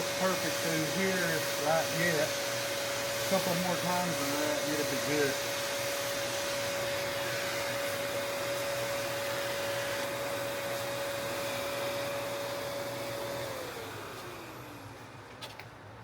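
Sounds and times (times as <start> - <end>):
power sander whining: 0.0 - 15.5.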